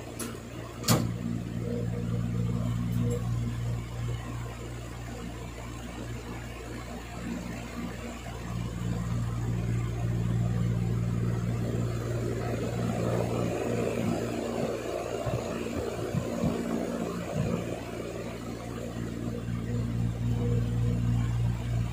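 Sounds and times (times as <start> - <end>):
low mechanical hum: 0.0 - 21.9.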